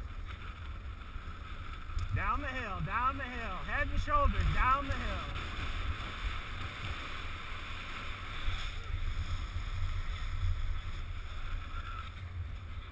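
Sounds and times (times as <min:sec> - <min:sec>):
skis sliding on snow: 0:00.0 - 0:12.9.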